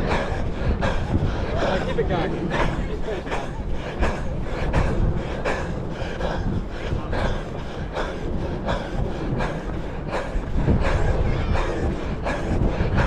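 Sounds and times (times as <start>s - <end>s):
person breathing hard: 0.0s - 13.0s
wind rumble on microphone: 0.0s - 13.0s.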